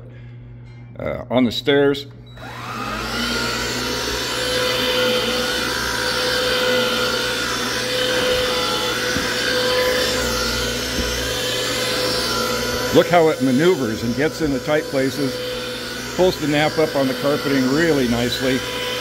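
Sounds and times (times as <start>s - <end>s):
stick vacuum running: 2.3s - 19.0s
vacuum head on carpet: 3.4s - 19.0s.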